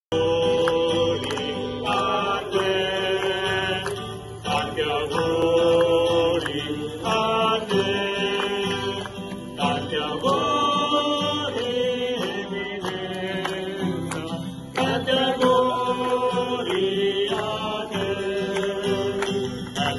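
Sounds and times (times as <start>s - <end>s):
voices singing slow chant: 0.1s - 19.9s.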